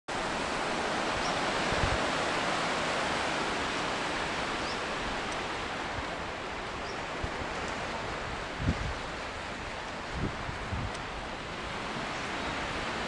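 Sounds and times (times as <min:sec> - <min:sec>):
gentle surf on a beach: 0:00.1 - 0:13.0.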